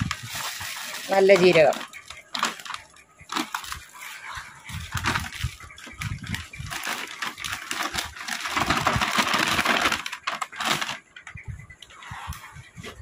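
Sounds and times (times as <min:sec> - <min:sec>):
seed packets rustling and crinkling: 0:00.0 - 0:11.3.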